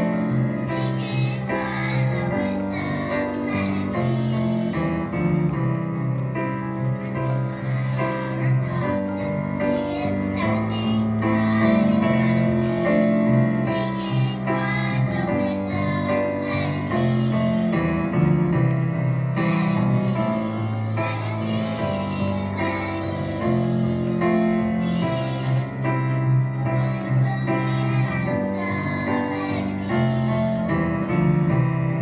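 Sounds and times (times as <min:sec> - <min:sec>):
children singing: 0:00.0 - 0:05.1, 0:06.9 - 0:18.1, 0:19.1 - 0:31.2
piano accompaniment: 0:00.0 - 0:32.0.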